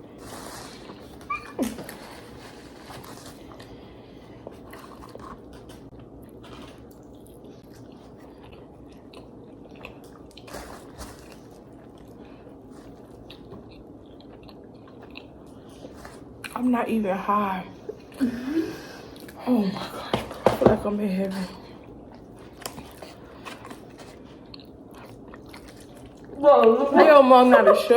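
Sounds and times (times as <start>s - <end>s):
people chewing food: 0.0s - 16.6s, 17.8s - 27.6s
low background hum: 0.0s - 27.9s.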